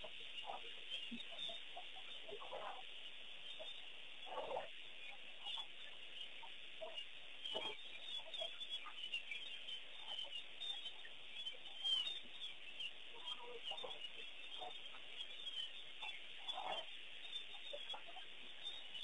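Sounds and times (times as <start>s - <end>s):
birds chirping: 0.0s - 19.0s
lower bird calls: 0.0s - 19.0s.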